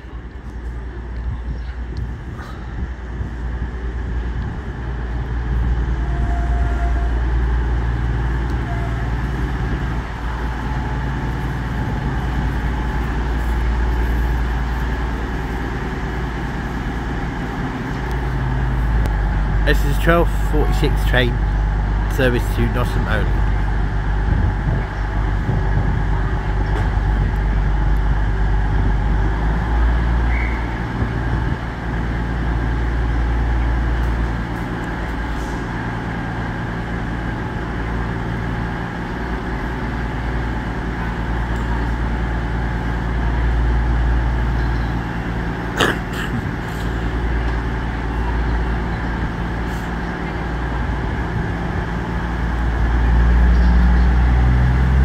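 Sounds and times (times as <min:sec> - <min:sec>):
diesel engines idling: 0:00.0 - 0:55.0.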